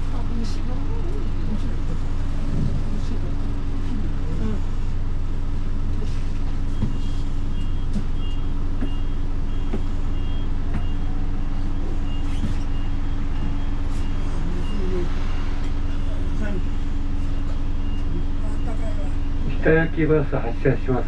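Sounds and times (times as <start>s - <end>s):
bus diesel engine idling: 0.0s - 21.0s.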